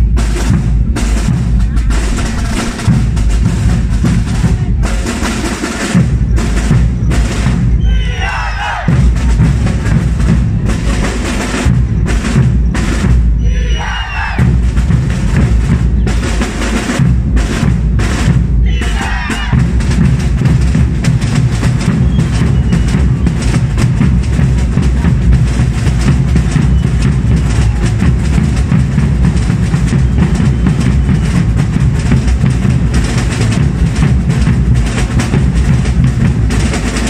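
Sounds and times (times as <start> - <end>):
bass and snare drums: 0.0 - 37.0.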